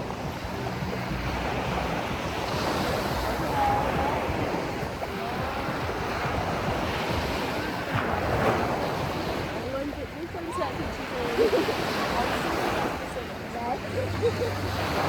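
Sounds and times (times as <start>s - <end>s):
ocean waves washing in: 0.0s - 15.0s
wind buffeting microphone: 0.0s - 15.0s.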